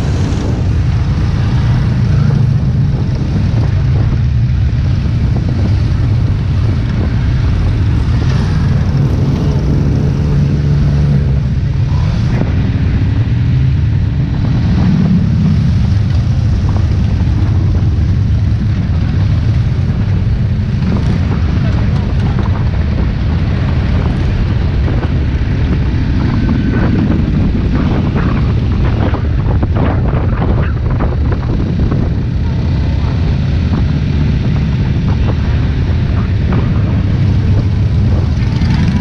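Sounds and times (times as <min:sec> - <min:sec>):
motorcycle engines rumbling: 0:00.0 - 0:39.0.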